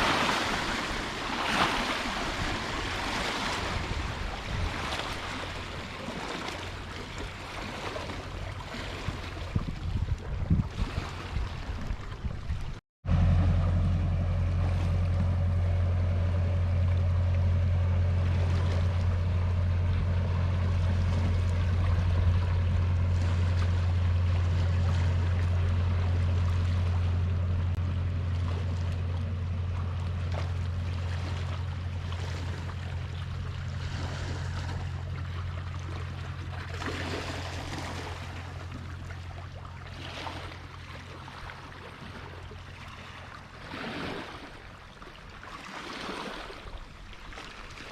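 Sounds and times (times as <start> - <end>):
boat engine droning: 0.0 - 47.9
sea water washing: 0.0 - 47.9.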